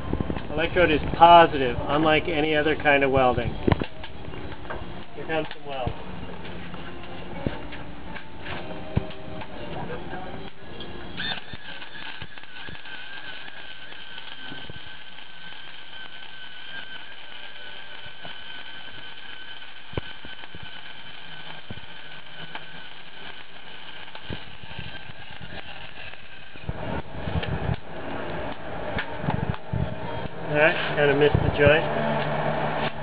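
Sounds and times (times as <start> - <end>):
wire-feed motor whine: 0.0 - 33.0
welding arc crackling: 0.1 - 33.0.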